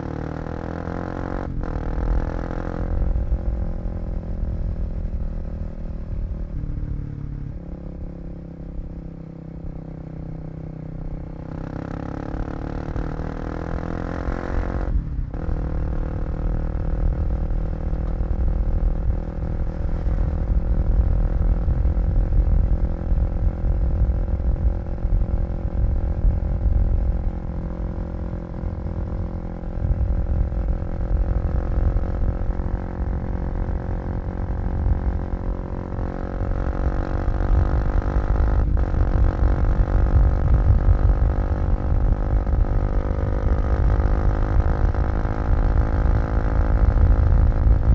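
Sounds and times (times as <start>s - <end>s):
low wind rumble: 0.0s - 47.9s
motorcycle engine revving: 0.0s - 47.9s.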